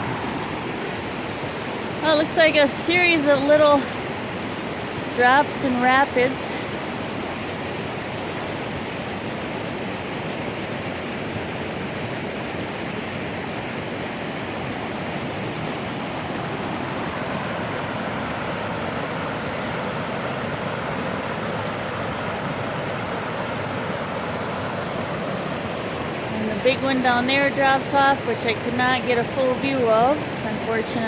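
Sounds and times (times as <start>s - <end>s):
river water rushing over rapids: 0.0s - 31.0s.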